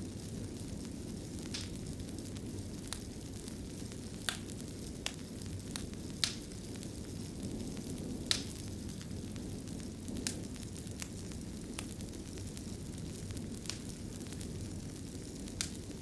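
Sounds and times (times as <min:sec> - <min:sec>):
fire rumble and hiss: 0:00.0 - 0:16.0
wood fire crackling and popping: 0:00.0 - 0:16.0.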